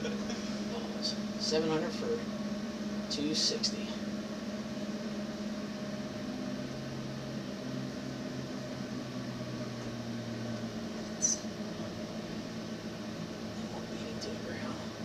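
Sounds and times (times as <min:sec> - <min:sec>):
flight simulator hum: 0:00.0 - 0:15.0.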